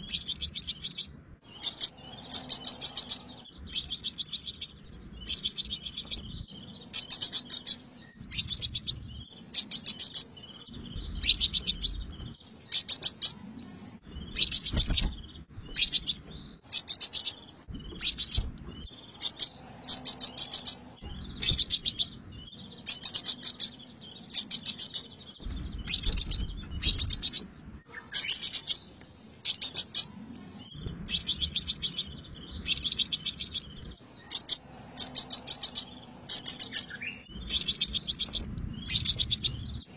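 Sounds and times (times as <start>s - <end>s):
sunbird chittering trills: 0.0s - 39.9s.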